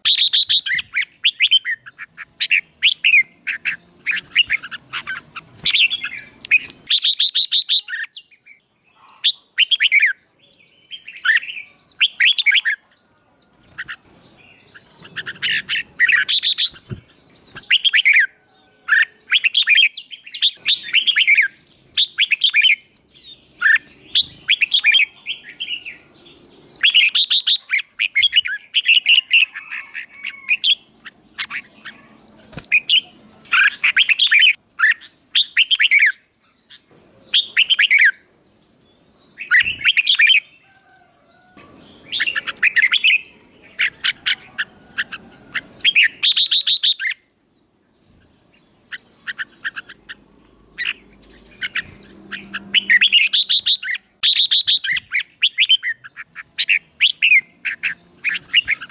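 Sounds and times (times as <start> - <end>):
songbird chirping and trilling: 0.0 - 58.9.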